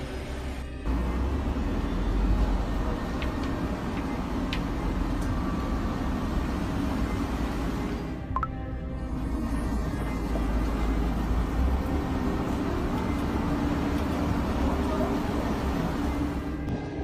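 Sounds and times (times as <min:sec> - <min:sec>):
vehicle driving through flood: 0:00.0 - 0:08.3, 0:09.1 - 0:16.6
heavy rain: 0:00.9 - 0:08.2, 0:09.2 - 0:16.6.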